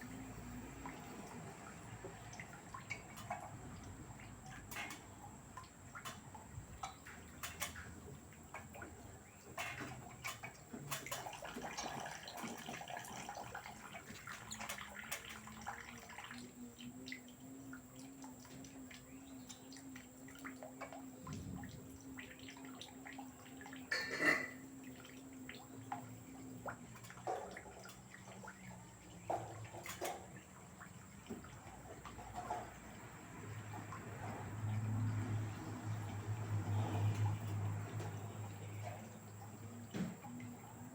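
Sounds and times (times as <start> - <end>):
washing machine motor hum: 0.0 - 40.9
water sloshing in washing machine: 0.0 - 40.9.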